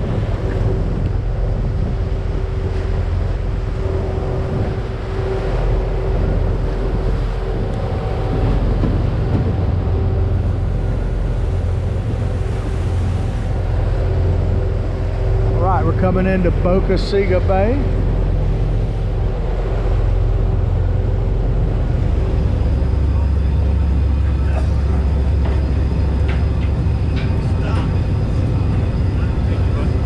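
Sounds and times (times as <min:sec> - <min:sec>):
boat engines humming: 0:00.0 - 0:30.0
faint engine whine: 0:00.0 - 0:30.0
water rushing past hull: 0:00.0 - 0:30.0
wind buffeting microphone: 0:00.0 - 0:30.0.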